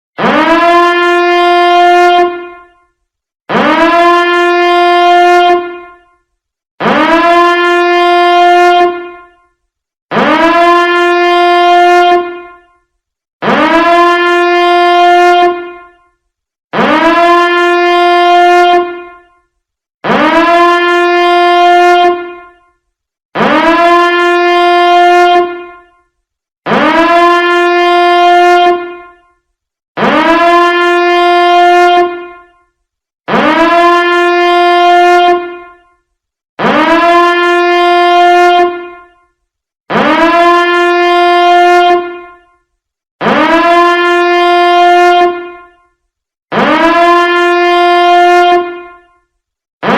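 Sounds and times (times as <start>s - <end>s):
warning alarm horn: 0.2s - 49.9s.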